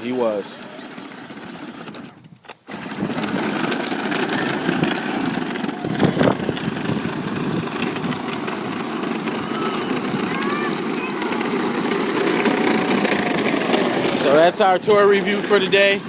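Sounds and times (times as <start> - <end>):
electric motors whirring: 0.0 - 16.0
plastic wheels rumbling on ground: 0.0 - 16.0.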